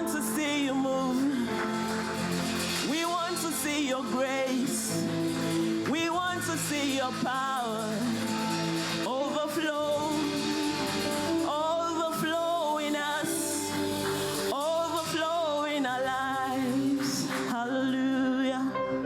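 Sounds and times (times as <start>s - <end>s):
choir singing gospel song: 0.0s - 18.8s
instrumental accompaniment: 0.0s - 19.0s.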